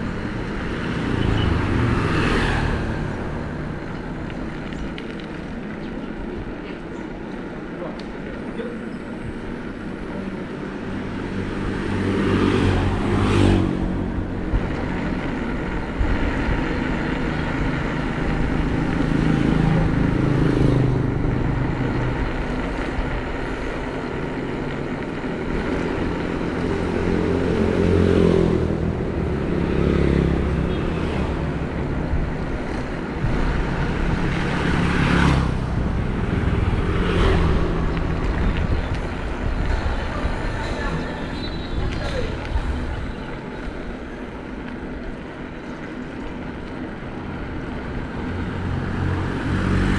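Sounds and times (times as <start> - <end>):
bicycle tyres rolling on road: 0.0 - 49.9
motor vehicles passing: 0.0 - 49.9.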